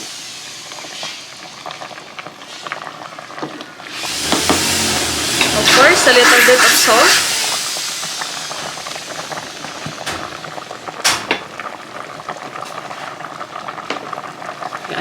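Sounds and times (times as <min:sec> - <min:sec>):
stew bubbling in a pot: 0:00.0 - 0:15.0.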